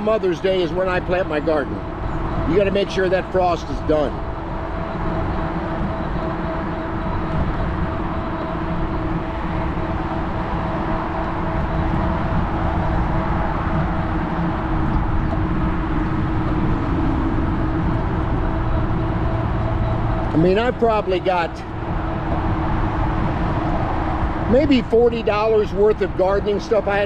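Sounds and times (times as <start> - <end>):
steady motor whine: 0.0 - 27.0
wind rumble on microphone: 0.0 - 27.0.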